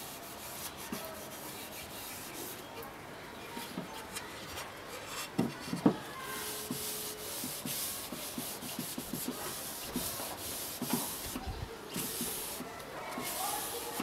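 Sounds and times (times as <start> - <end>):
hand rubbing wax into wood: 0.0 - 14.0.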